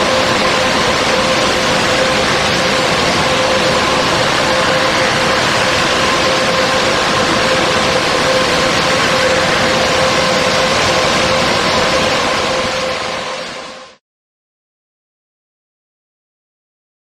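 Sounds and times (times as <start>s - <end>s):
car wash rushing noise: 0.0s - 14.0s.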